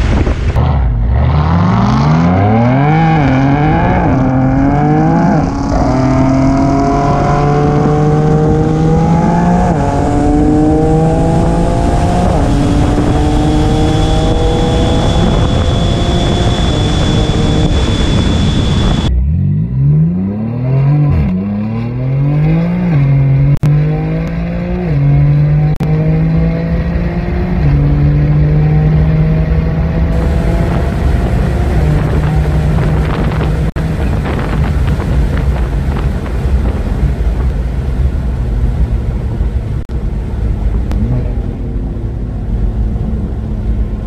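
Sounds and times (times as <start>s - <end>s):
wind and road noise: 0.0s - 44.0s
car engine accelerating through gears: 0.5s - 44.0s.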